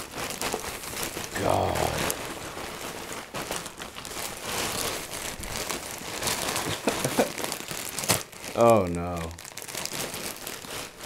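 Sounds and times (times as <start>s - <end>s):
paper towels crinkling: 0.0s - 11.0s.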